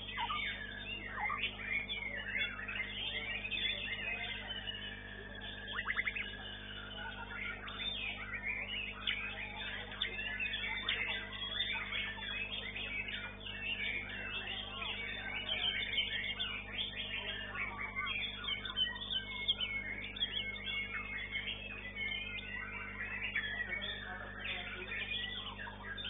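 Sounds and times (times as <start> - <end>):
bird song whistles and trills: 0.0 - 26.0
low electrical hum: 0.0 - 26.0.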